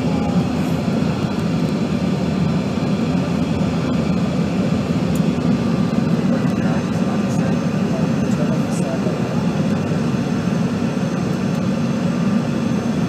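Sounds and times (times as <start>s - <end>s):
jet cabin engine and airflow noise: 0.0s - 13.0s.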